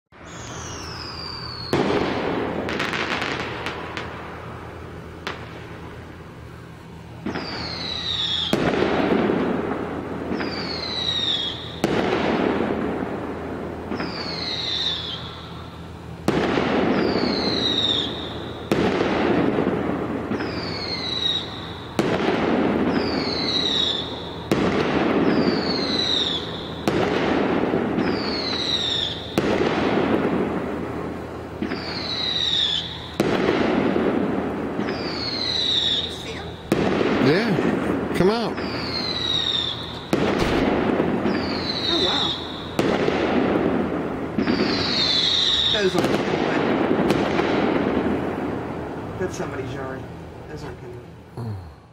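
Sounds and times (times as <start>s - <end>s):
fireworks cracking and whistling: 0.1s - 51.2s.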